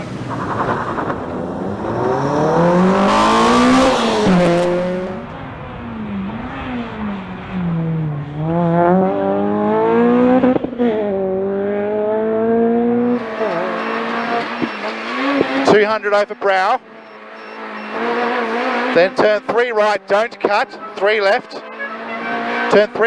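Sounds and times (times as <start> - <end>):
car engine revving hard: 0.0 - 23.0.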